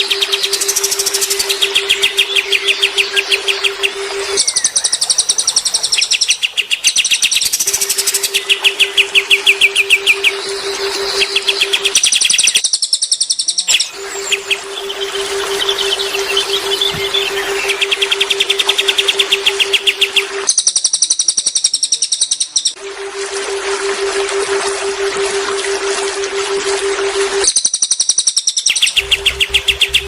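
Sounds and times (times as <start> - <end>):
steady low hum: 0.0 - 12.6, 13.8 - 20.6, 22.8 - 27.5
songbirds singing rapid trills: 0.0 - 22.8, 27.4 - 30.0.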